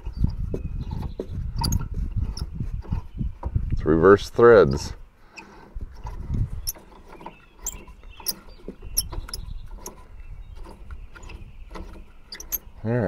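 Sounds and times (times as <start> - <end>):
small metallic clicks and scrapes: 0.0 - 3.1, 5.3 - 12.7.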